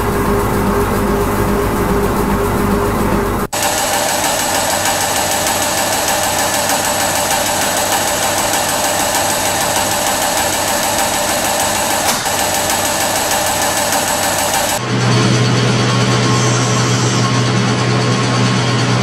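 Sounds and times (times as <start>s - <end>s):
machinery droning with a whine: 0.0s - 19.0s.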